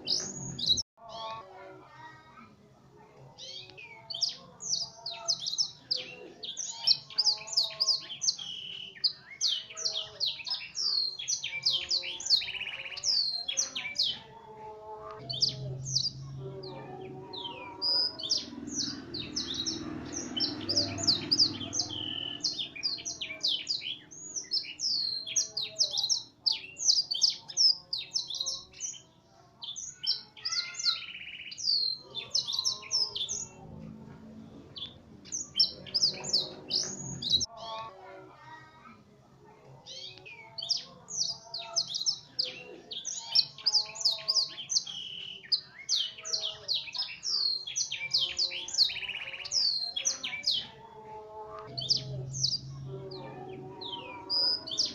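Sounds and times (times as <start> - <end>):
canary chirping and trilling: 0.0 - 2.4, 3.2 - 38.8, 39.7 - 54.9.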